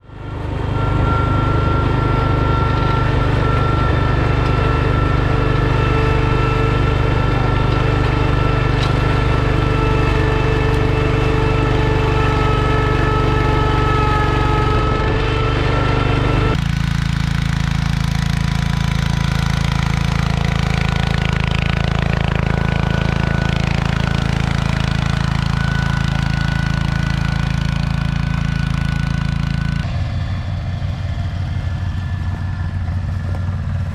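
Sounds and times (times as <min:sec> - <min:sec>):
garden tractor engines running: 0:00.0 - 0:33.9.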